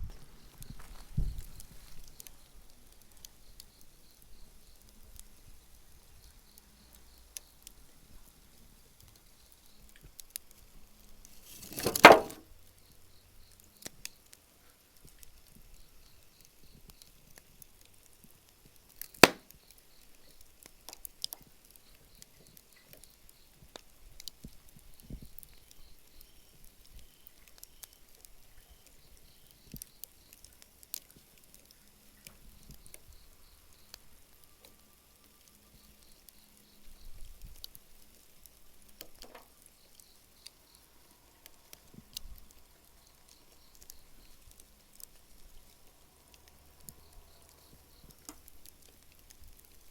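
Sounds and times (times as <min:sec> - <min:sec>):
campfire crackling: 0:00.0 - 0:49.9
fire popping: 0:00.0 - 0:49.9
sharp crack of fire: 0:00.0 - 0:49.9.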